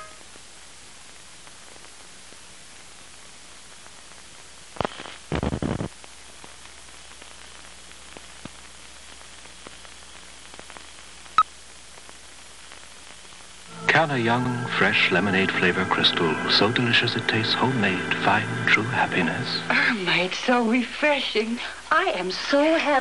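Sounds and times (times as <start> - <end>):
loud static bursts: 0.0 - 23.0
videotape hiss: 0.0 - 23.0.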